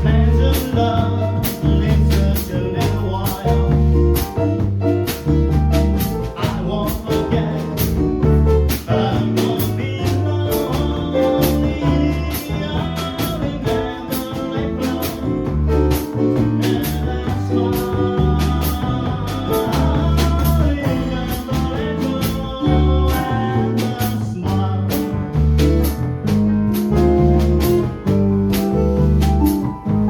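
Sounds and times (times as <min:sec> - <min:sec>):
jazz group playing: 0:00.0 - 0:30.0
moving bass line: 0:00.0 - 0:30.0.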